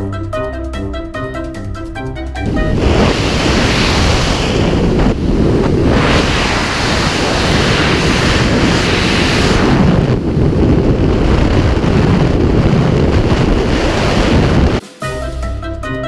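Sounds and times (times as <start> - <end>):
wind rushing over microphone: 1.3 - 14.8.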